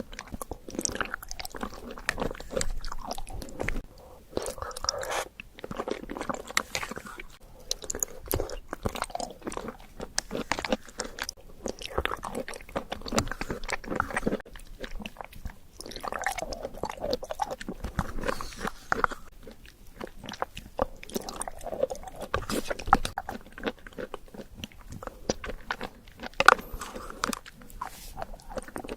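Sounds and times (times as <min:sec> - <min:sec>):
chewing with wet clicks: 0:00.0 - 0:28.9.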